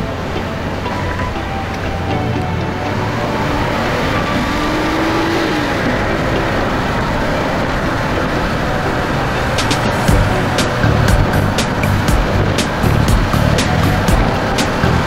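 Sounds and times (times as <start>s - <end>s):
car driving at speed: 0.0s - 15.0s.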